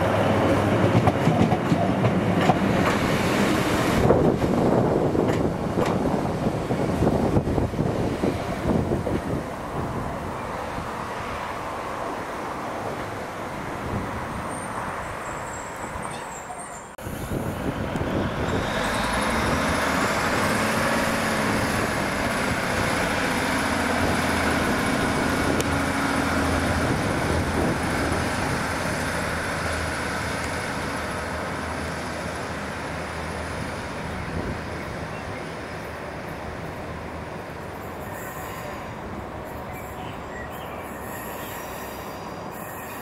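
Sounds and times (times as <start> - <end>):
train passing: 0.0 - 43.0.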